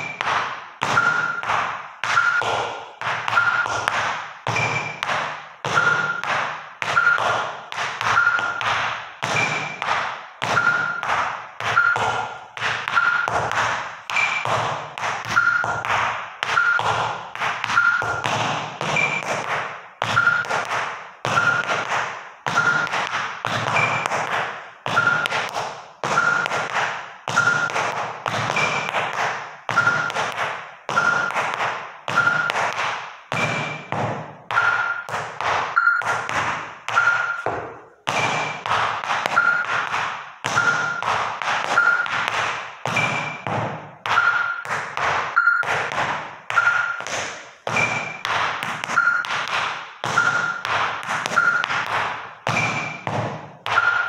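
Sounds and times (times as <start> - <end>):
tap shoes on wooden floor: 0.0 - 54.0.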